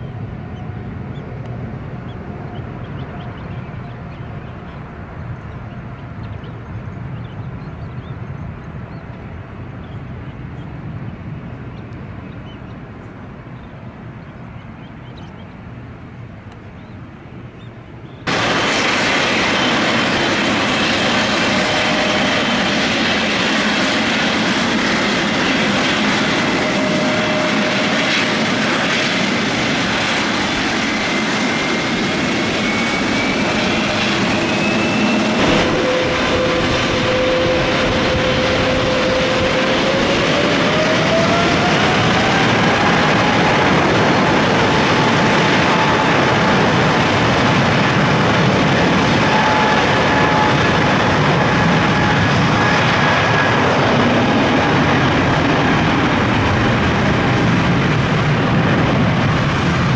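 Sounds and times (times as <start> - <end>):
departing jet rumble: 0.0 - 59.9
jet engines rushing and whining: 0.0 - 59.9.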